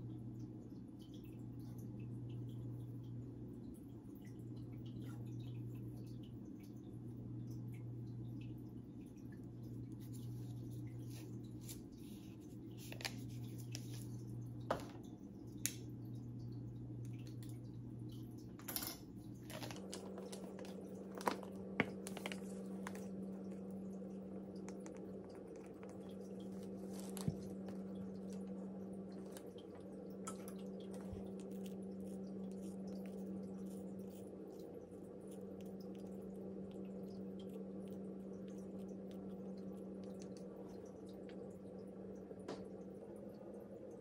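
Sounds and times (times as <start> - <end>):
aquarium filter hum: 0.0 - 44.0
water trickling: 0.0 - 44.0.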